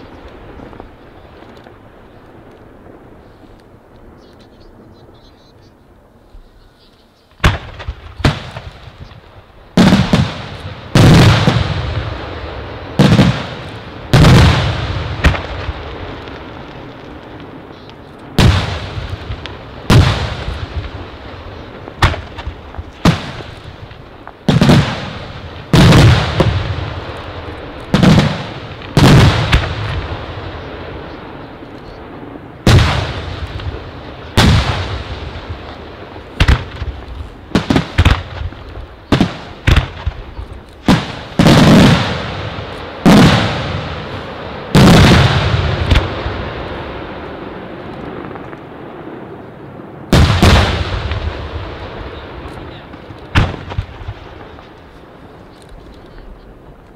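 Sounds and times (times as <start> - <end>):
smaller firework reports: 0.0 - 56.9.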